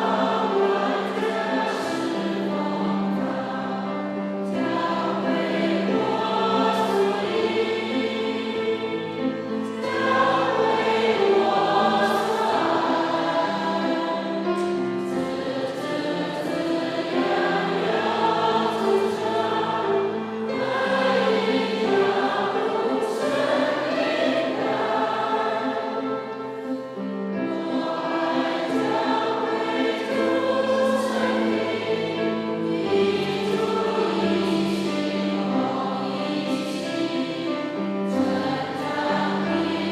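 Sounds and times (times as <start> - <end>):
congregation singing a hymn: 0.0 - 39.9
instrumental accompaniment: 0.0 - 39.9.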